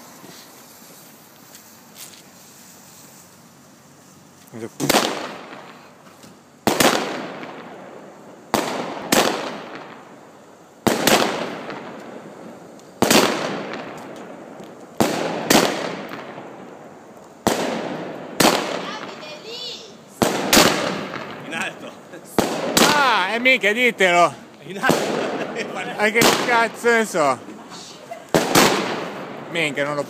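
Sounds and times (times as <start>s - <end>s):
fireworks bangs echoing: 4.8s - 6.0s, 6.6s - 30.0s.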